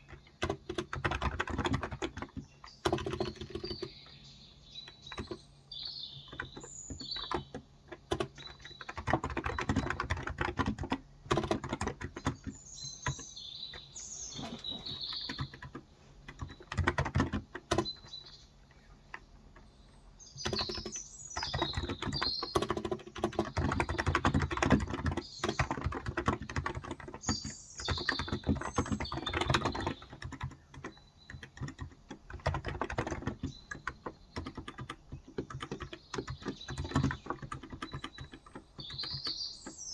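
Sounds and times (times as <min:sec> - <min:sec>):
keyboard typing: 0:00.0 - 0:04.0, 0:04.8 - 0:05.4, 0:06.2 - 0:19.7, 0:20.3 - 0:39.8
birds chirping: 0:00.0 - 0:39.9.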